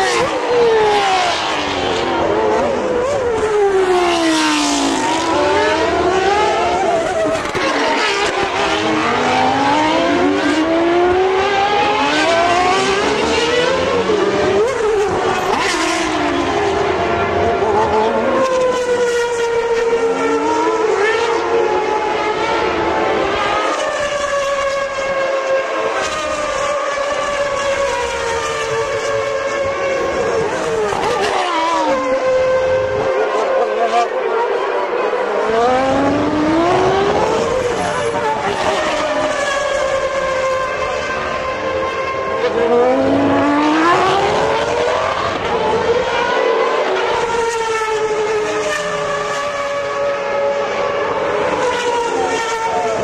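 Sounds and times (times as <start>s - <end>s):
racing car engines passing: 0.0s - 53.0s.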